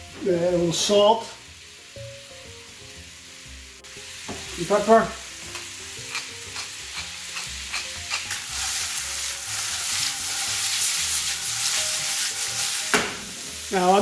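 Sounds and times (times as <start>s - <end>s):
peppers sizzling in a pan: 0.0s - 14.0s.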